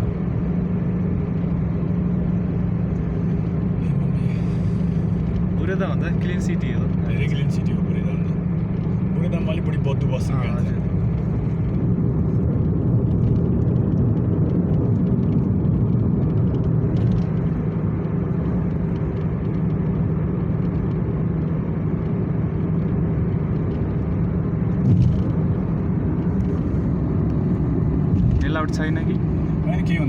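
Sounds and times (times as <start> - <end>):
car road and engine drone: 0.0 - 30.0.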